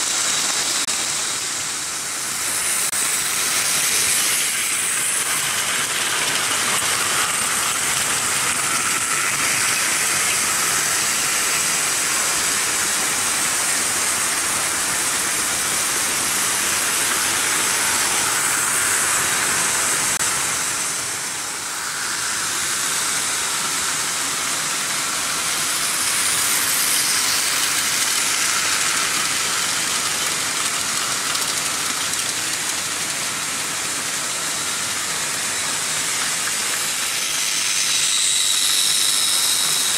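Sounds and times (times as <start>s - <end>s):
model train wheels rolling on track: 0.0s - 39.9s.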